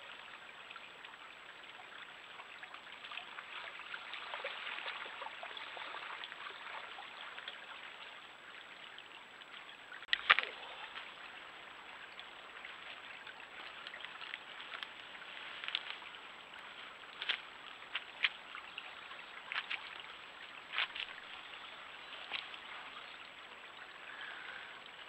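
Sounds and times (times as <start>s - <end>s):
stream trickling: 0.0s - 25.0s.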